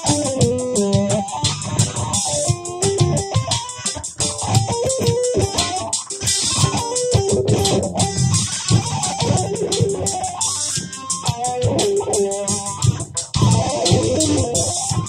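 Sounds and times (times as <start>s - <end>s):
electric guitar blues jam: 0.0s - 15.0s.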